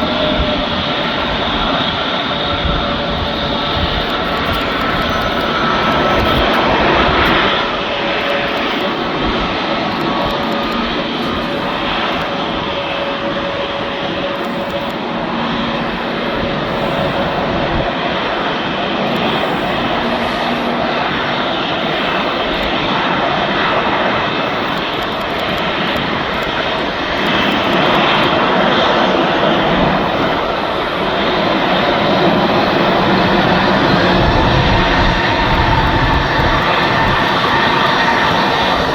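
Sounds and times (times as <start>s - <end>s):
jet engine roar: 0.0s - 38.9s.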